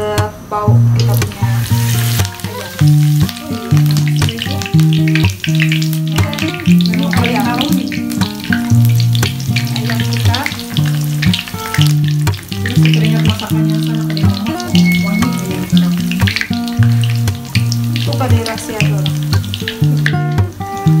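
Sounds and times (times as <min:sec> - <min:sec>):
hot oil sizzling: 0:00.0 - 0:21.0.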